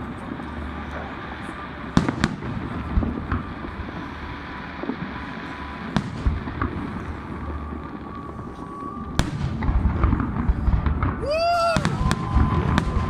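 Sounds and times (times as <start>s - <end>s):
faint firework whistle: 0.0s - 13.0s
fireworks bursts and cracks: 0.0s - 13.0s.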